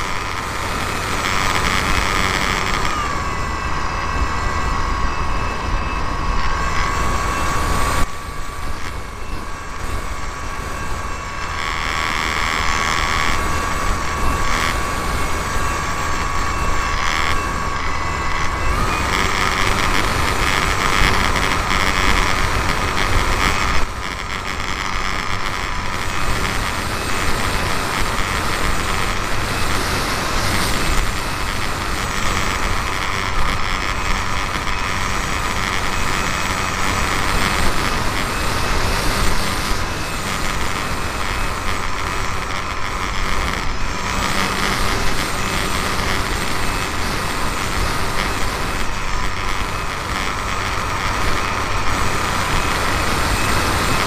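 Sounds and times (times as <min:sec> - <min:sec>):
model plane motor whine: 0:00.0 - 0:54.0.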